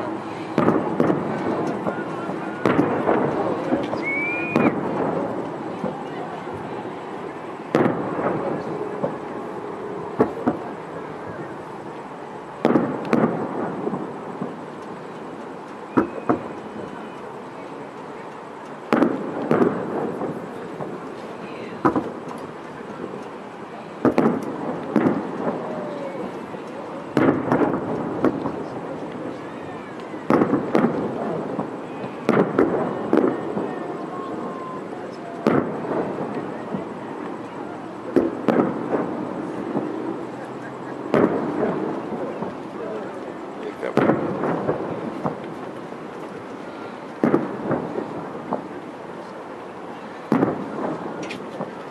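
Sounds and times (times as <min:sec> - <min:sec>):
fireworks bursting with rumble: 0:00.0 - 0:51.9.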